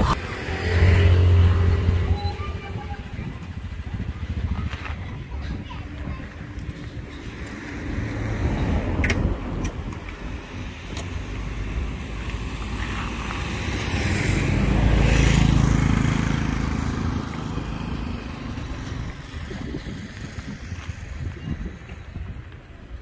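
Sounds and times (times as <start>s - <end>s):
vehicle passing: 0.0s - 4.3s, 6.2s - 20.7s
wind rumble on microphone: 0.0s - 23.0s.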